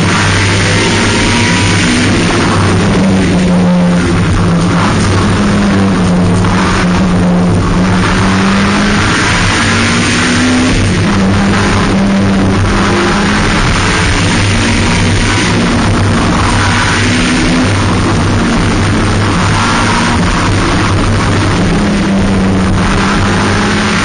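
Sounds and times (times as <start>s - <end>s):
racing car engine revving: 0.0s - 24.0s.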